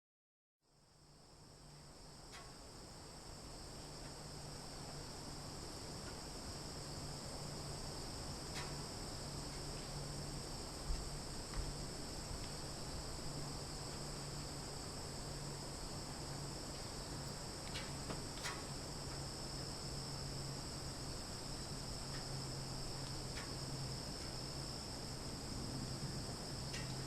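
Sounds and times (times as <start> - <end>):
crickets and cicadas chirping: 0.7 - 27.0.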